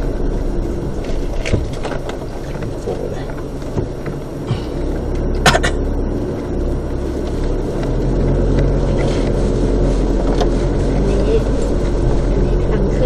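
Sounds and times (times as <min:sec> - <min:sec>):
car engine hum: 0:00.0 - 0:13.0
tyres on dirt track: 0:00.0 - 0:13.0.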